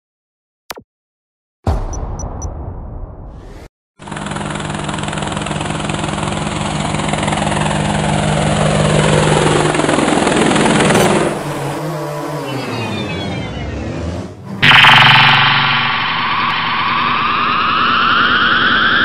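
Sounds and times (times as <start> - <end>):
drone propellers whirring: 3.3 - 19.0.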